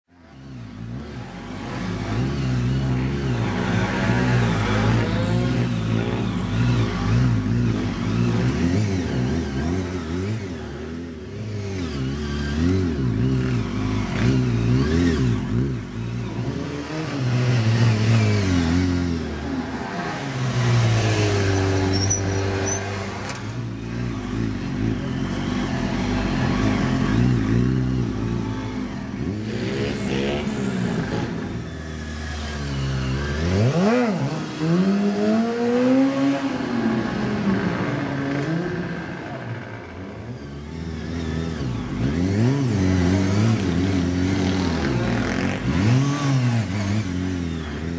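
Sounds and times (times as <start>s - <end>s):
motorcycle engine revving: 0.2s - 47.9s.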